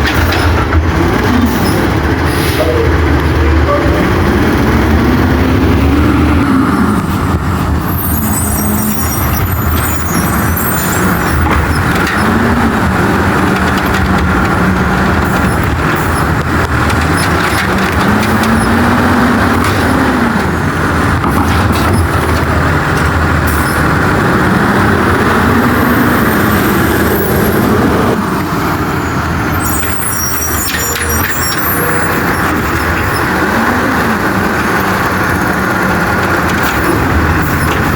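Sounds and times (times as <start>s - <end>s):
truck engine revving: 0.0s - 37.9s.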